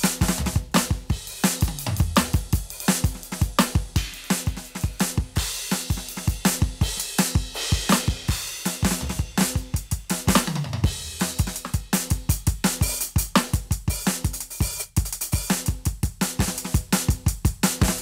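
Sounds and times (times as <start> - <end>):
electronic drum kit groove: 0.0 - 18.0.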